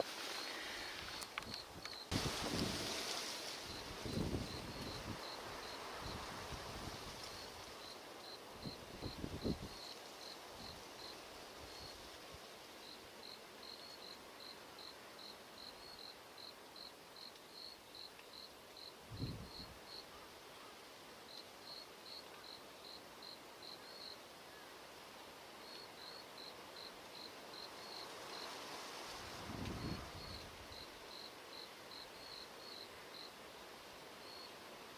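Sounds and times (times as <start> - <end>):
cricket chirping: 0.0 - 2.4, 3.7 - 6.5, 7.2 - 12.0, 12.8 - 20.2, 21.3 - 24.6, 25.6 - 33.4, 34.2 - 34.6.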